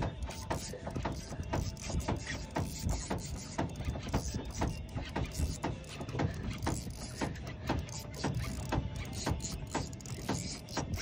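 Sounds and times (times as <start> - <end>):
fishing reel clicking: 0.0 - 11.0.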